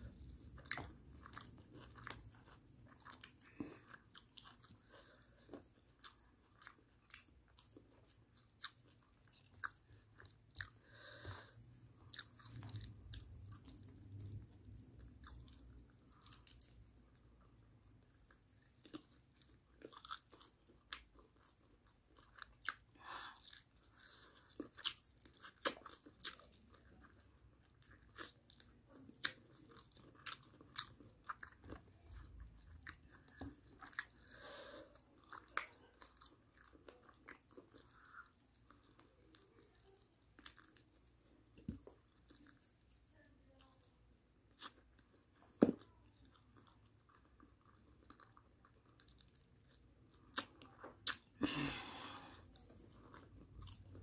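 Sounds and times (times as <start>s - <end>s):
person chewing with mouth smacks: 0.0s - 54.0s.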